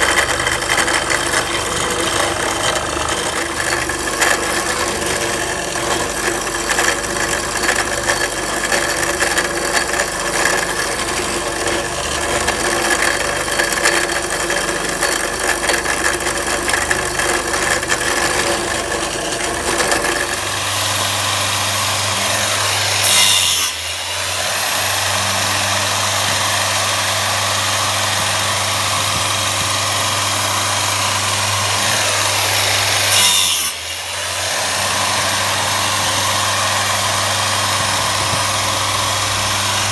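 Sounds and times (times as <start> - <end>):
circular saw cutting wood: 0.0 - 39.9
electric drill boring wood: 0.0 - 39.9.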